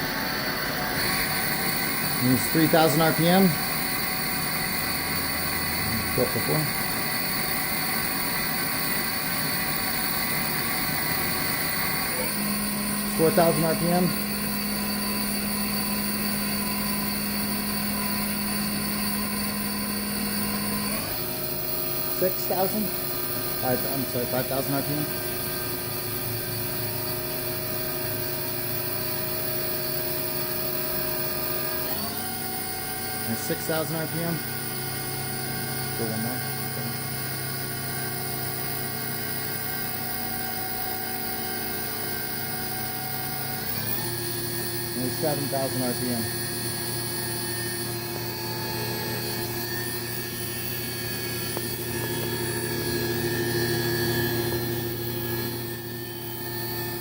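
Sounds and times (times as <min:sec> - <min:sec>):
machine spindle whine: 0:00.0 - 0:57.0.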